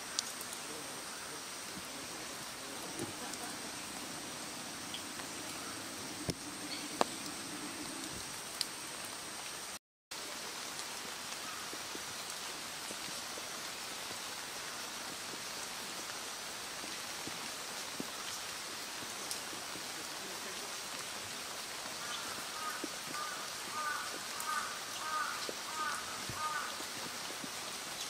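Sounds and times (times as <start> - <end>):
faint ticks of raindrops: 0.0 - 28.0
light rain falling: 0.0 - 28.0.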